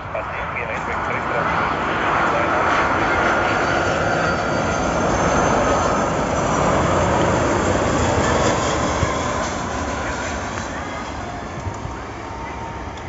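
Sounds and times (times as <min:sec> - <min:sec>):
jet aircraft passing low: 0:00.0 - 0:13.0.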